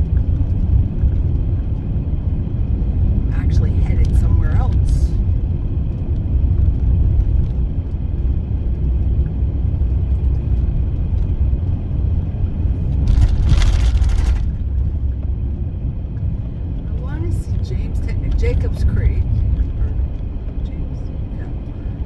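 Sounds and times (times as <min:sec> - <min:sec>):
van engine and tyre rumble: 0:00.0 - 0:22.0.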